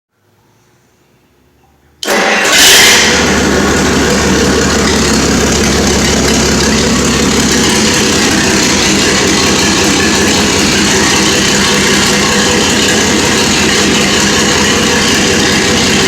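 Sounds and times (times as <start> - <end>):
engine idling: 2.0 - 16.0.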